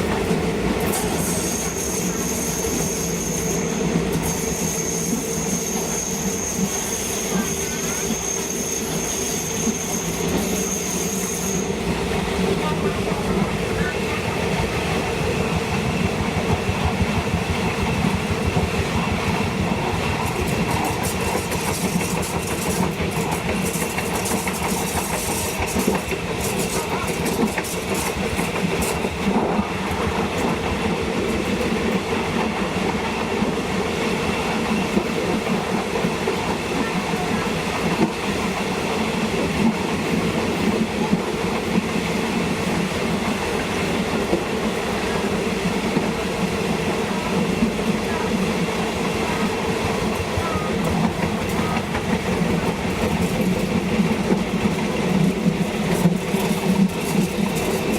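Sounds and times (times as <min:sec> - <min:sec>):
train rumbling along track: 0:00.0 - 0:57.9.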